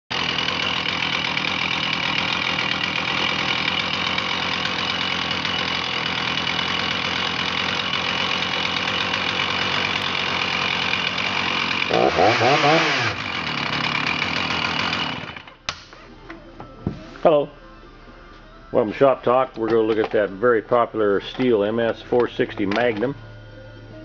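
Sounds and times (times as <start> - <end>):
chainsaw engine idling: 0.1 - 15.7, 18.8 - 23.2.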